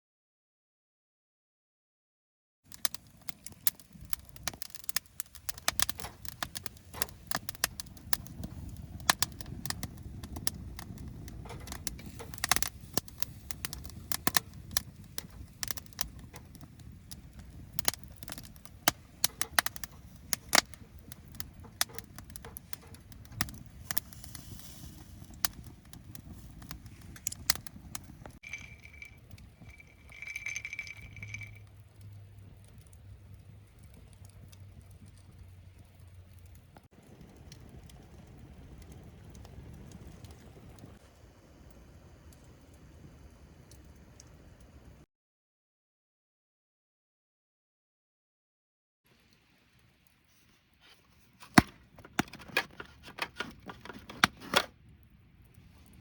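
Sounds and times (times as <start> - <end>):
campfire crackling and popping: 2.7 - 45.0, 51.2 - 56.0.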